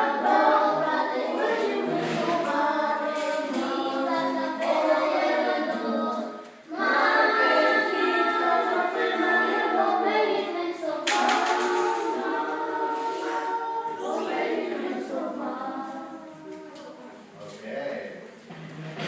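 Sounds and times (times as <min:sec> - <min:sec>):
choir singing unaccompanied: 0:00.0 - 0:17.3.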